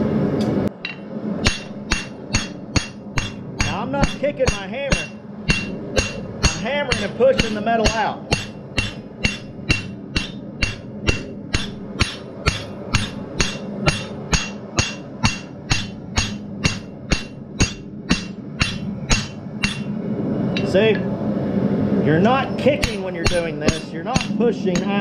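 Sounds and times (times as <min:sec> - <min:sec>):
steady low hum: 0:00.0 - 0:25.0
hammer striking steel on anvil: 0:00.4 - 0:21.1, 0:22.4 - 0:25.0.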